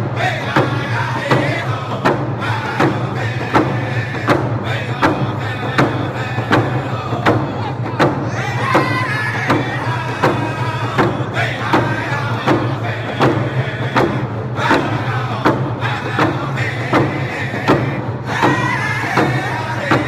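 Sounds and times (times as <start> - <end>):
frame drums beating: 0.0 - 20.0
group of men singing: 0.0 - 20.0.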